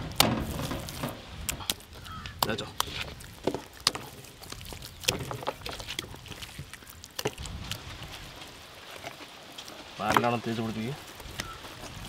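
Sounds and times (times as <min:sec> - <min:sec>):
hands smearing wet paste: 0:00.4 - 0:12.0.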